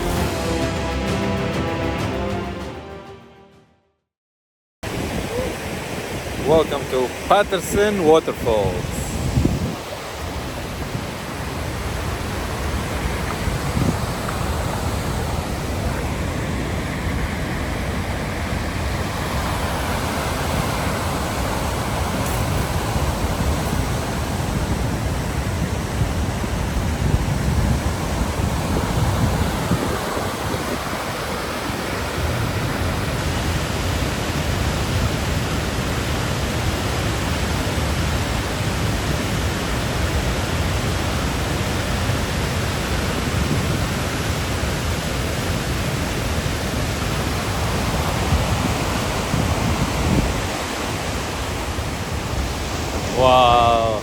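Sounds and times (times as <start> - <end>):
waterfall rushing: 0.0 - 2.9, 4.9 - 54.0.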